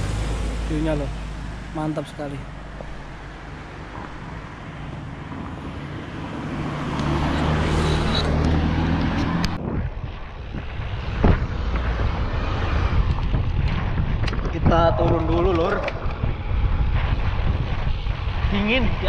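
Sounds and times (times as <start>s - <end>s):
low rushing noise: 0.0s - 19.0s
vehicle engine hum: 0.0s - 19.0s.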